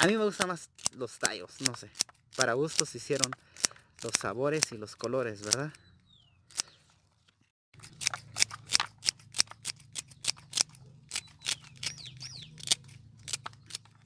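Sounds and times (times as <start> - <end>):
scissors snipping celery: 0.0 - 4.8, 5.4 - 5.7, 7.8 - 14.0.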